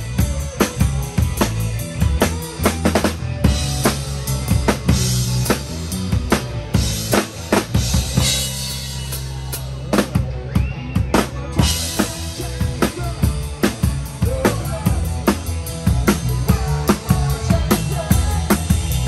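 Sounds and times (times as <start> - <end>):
bass line: 0.0 - 19.0
guitar: 0.0 - 19.0.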